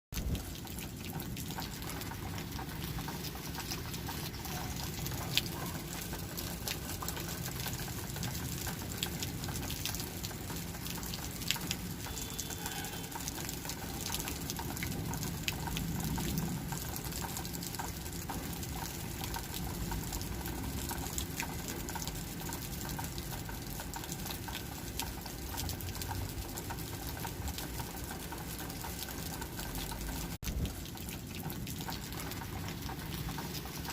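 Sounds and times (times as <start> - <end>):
rain falling steadily: 0.1 - 33.9.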